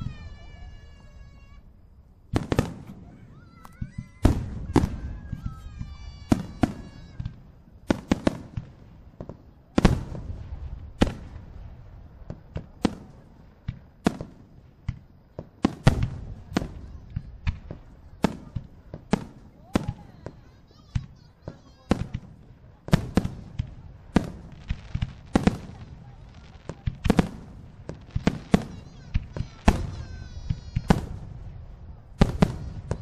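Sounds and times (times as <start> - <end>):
firework bangs echoing: 0.0 - 33.0.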